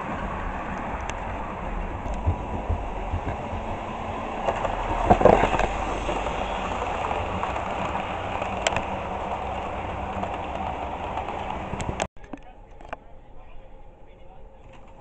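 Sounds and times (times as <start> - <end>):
model train wheels rolling on track: 0.0 - 13.0.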